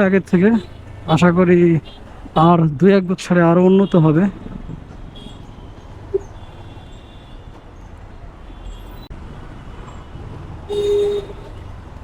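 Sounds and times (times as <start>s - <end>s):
motorcycle engine and road rumble: 0.0s - 12.0s.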